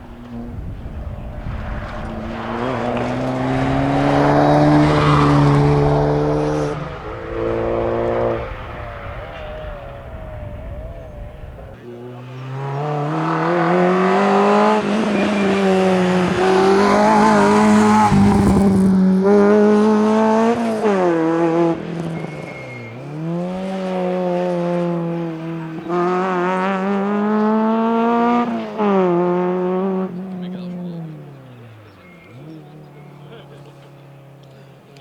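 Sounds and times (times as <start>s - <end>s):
car engine at high revs: 0.0s - 35.0s.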